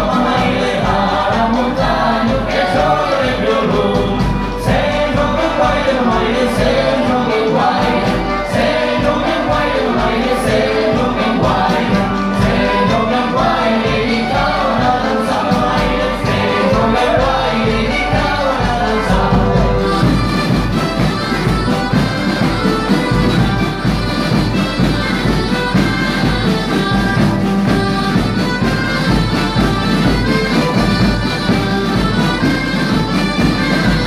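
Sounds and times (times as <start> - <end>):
chorus singing a folk song: 0.0 - 34.0
fiddles and band accompaniment: 0.0 - 34.0.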